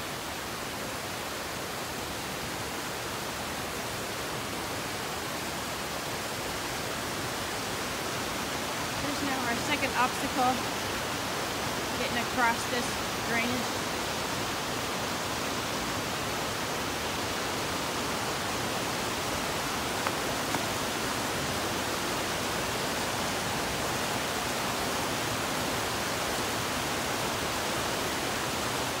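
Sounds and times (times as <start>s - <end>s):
creek water rushing: 0.0s - 29.0s.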